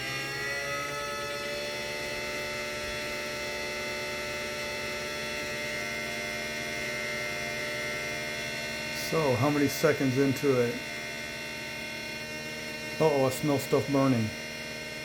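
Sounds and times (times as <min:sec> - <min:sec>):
electric motor hum and whine: 0:00.0 - 0:15.0.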